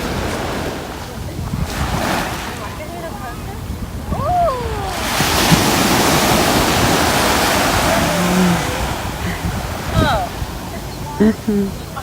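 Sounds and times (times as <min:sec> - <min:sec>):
wave breaking on beach: 0:00.0 - 0:11.2.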